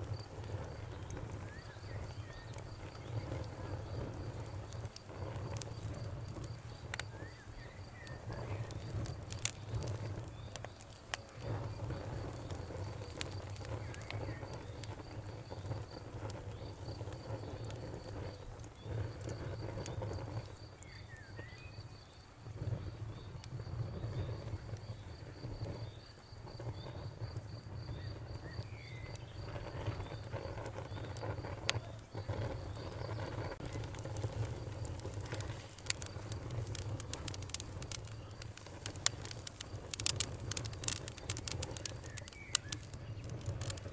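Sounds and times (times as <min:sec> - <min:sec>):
campfire crackling and popping: 0:00.0 - 0:43.9
cricket chirping: 0:00.0 - 0:43.9.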